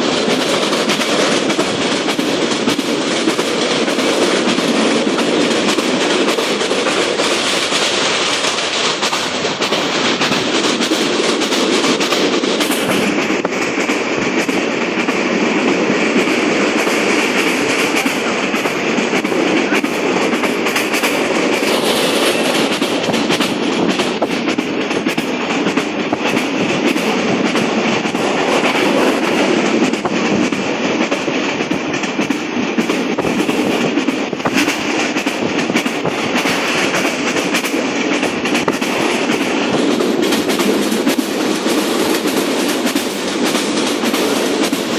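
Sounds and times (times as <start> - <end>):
rapid clicking of train: 0.0 - 44.9
train wheels rumbling on rails: 0.0 - 44.9.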